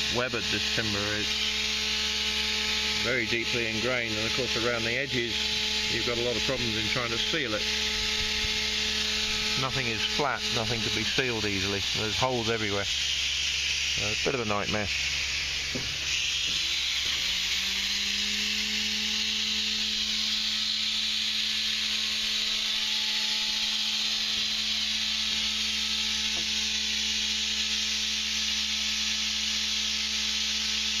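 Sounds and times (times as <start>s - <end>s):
power tool running: 0.0s - 31.0s.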